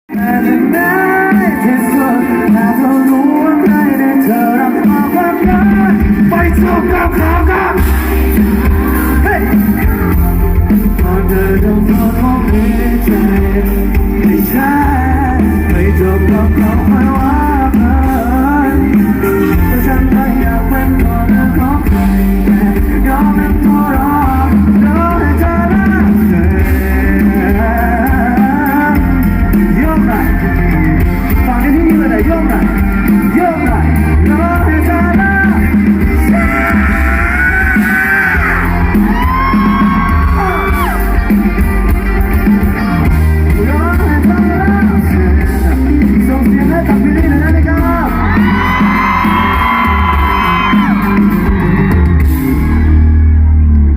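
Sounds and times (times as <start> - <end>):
person singing: 0.1 - 53.0
live rock band: 0.1 - 53.9.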